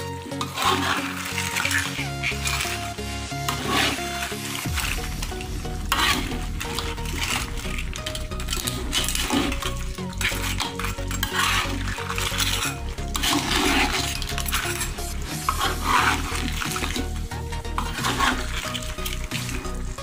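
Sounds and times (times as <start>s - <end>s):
background music: 0.0s - 20.0s
spatula scraping cooking pan: 0.0s - 20.0s.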